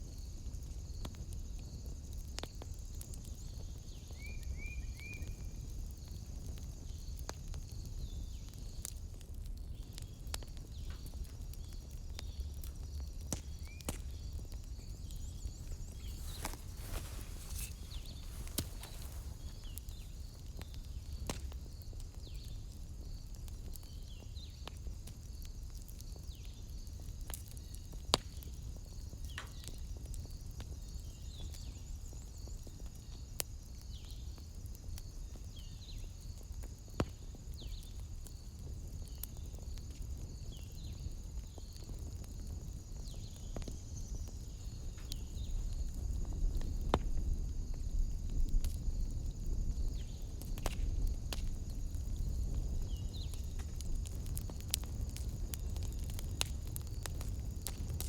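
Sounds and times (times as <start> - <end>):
wood fire crackling and popping: 0.0 - 58.0
night insects chirring: 10.7 - 24.6, 25.3 - 58.0.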